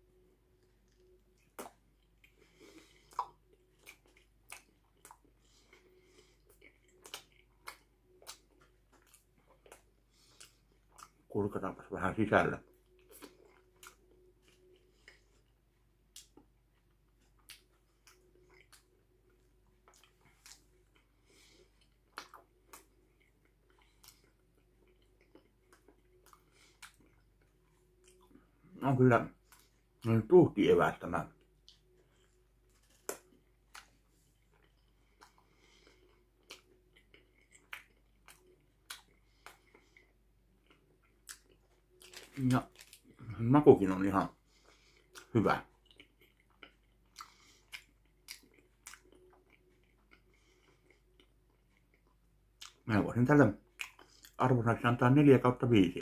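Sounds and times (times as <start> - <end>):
person chewing: 0.1 - 11.3, 12.6 - 30.1, 31.3 - 52.8, 53.6 - 54.4.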